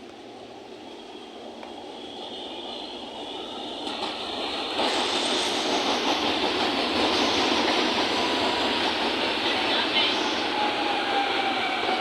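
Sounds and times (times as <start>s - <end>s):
electric train droning: 0.2s - 12.0s.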